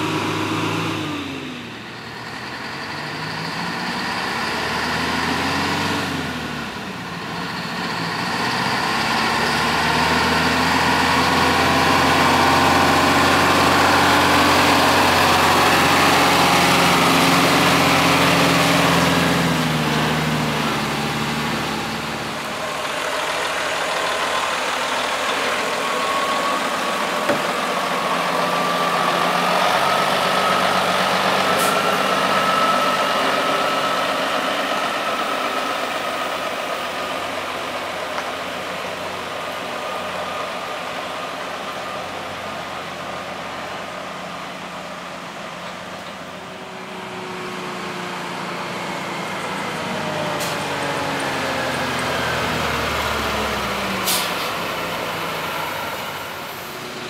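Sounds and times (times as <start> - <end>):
diesel truck passing: 0.0 - 57.0
diesel truck running slowly: 0.0 - 57.0.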